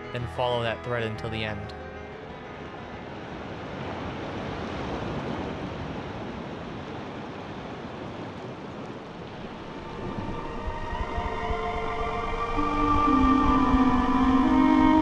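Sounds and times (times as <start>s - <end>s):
ocean waves washing in: 2.5s - 15.0s.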